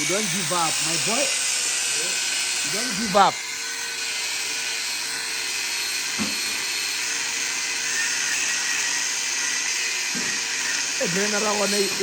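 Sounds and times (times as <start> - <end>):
high-speed power tool whine: 0.0 - 12.0.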